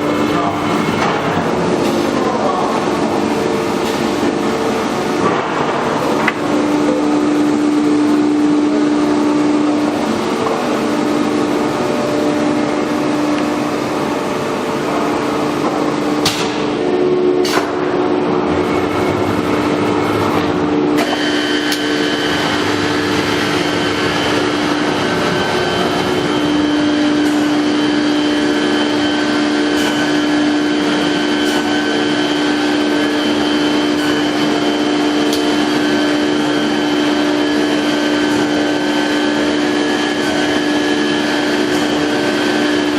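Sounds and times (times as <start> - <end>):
cnc router humming: 0.0 - 42.9
high steady whine: 0.0 - 42.9.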